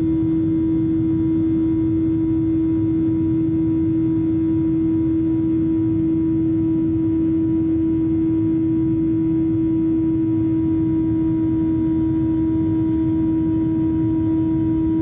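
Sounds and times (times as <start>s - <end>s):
airplane cabin engine drone: 0.0s - 15.0s
steady hum: 0.0s - 15.0s.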